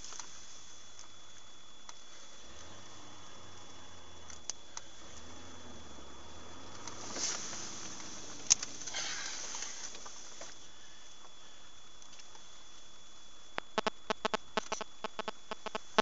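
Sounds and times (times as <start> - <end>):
road and cabin noise hiss: 0.0 - 16.0.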